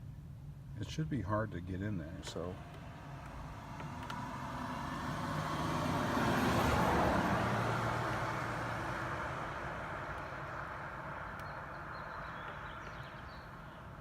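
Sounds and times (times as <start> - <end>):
vehicle passing by: 1.3 - 14.0.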